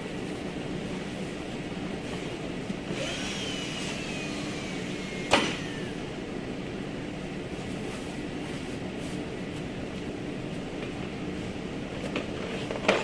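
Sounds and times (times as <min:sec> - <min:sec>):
steady workshop hum: 0:00.0 - 0:13.0.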